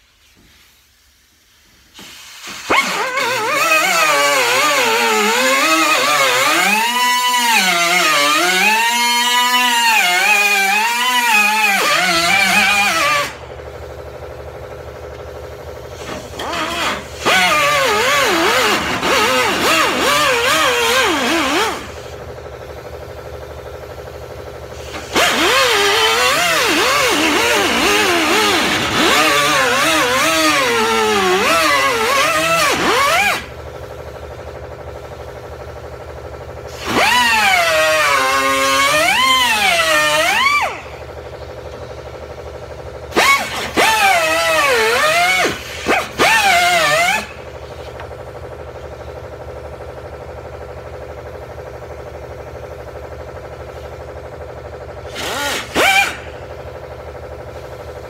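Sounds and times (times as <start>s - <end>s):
pneumatic cut-off wheel cutting steel: 1.8s - 49.0s, 53.3s - 58.0s.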